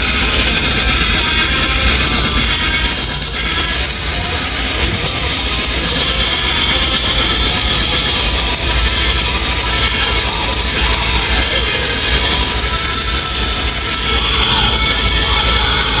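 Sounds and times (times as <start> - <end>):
rock music with electric guitar: 0.0 - 16.0.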